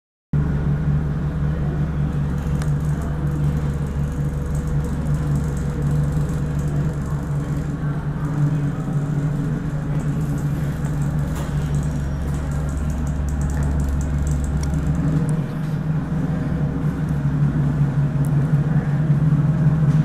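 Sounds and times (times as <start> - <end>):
train hum and rumble: 0.4 - 20.0.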